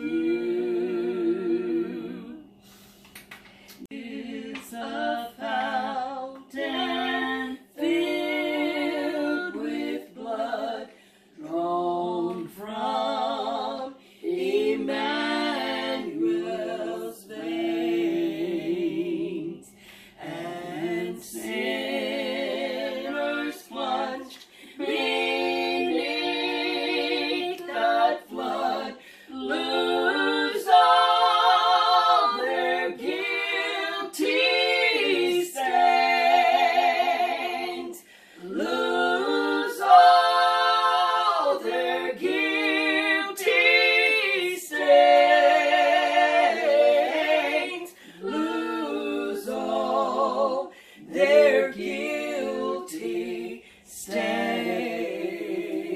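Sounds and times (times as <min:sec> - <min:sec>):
women singing a cappella: 0:00.0 - 0:55.9.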